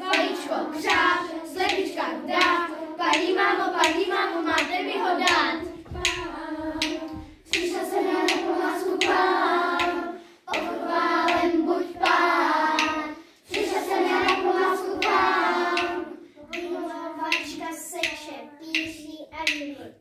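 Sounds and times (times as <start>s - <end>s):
children singing: 0.0s - 19.6s.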